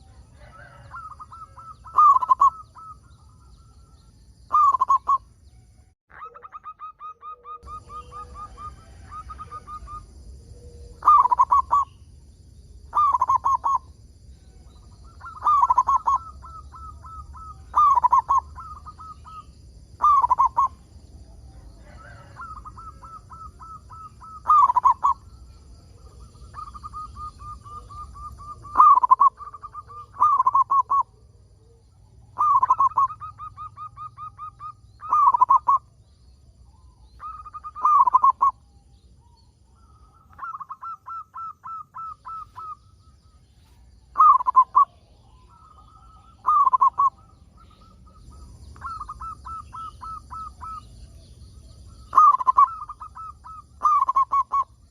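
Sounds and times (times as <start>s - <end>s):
dove cooing: 0.0s - 5.3s, 6.1s - 11.9s, 12.8s - 13.9s, 14.5s - 35.9s, 36.7s - 38.6s, 39.2s - 54.9s.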